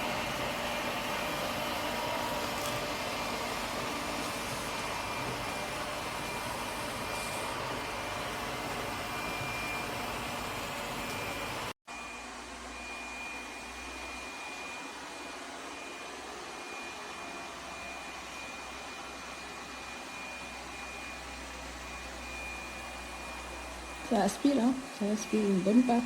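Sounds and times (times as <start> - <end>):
robot vacuum running: 0.0 - 26.0.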